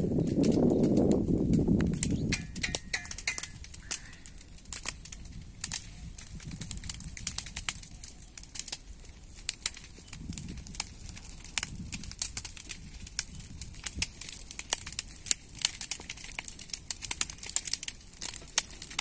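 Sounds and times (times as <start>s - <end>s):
fire crackling and popping: 0.0s - 19.0s
fire rushing: 0.0s - 19.0s.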